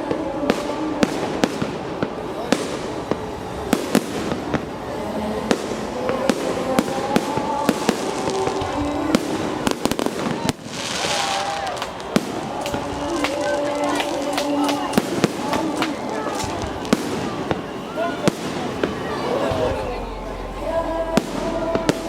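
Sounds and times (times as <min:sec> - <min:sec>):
crowd voices: 0:00.0 - 0:22.0
fireworks bangs and crackles: 0:00.0 - 0:22.0.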